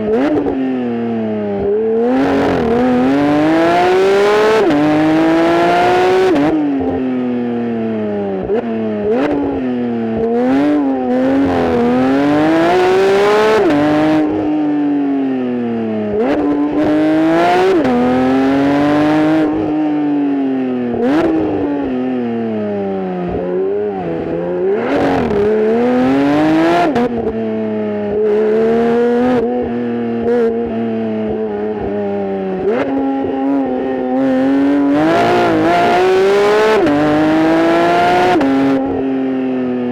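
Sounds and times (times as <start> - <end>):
car engine accelerating and shifting: 0.0 - 39.9.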